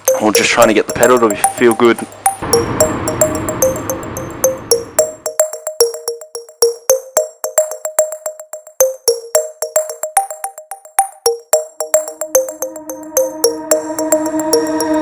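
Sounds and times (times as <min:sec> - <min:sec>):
electronic music: 0:00.0 - 0:15.0.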